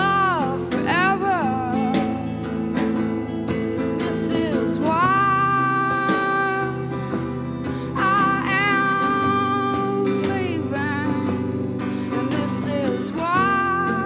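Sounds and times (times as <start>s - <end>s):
woman singing slow song: 0.0s - 3.1s, 3.7s - 14.0s
drums: 0.0s - 14.0s
guitar: 0.0s - 14.0s.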